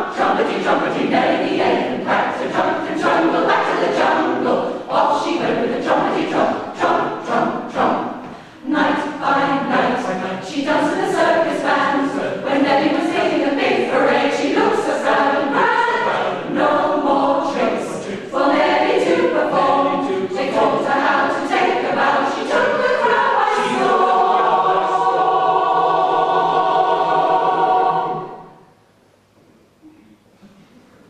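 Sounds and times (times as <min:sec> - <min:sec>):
mixed choir singing a cappella: 0:00.0 - 0:28.7.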